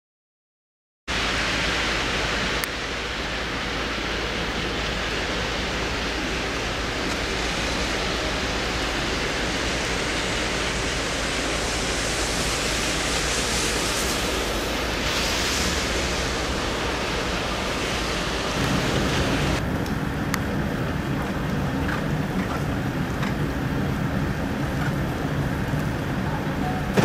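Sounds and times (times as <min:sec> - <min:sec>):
rushing outdoor noise: 0:01.1 - 0:27.0.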